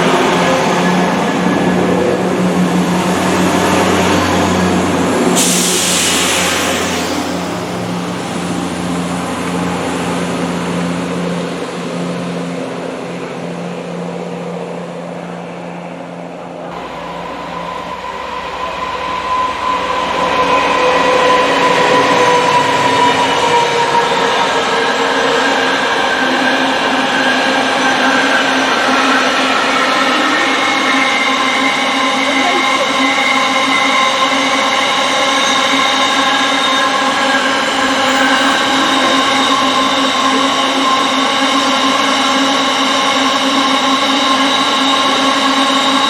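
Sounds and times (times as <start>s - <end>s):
approaching train whine: 0.0s - 46.0s
train engine hum: 0.0s - 46.0s.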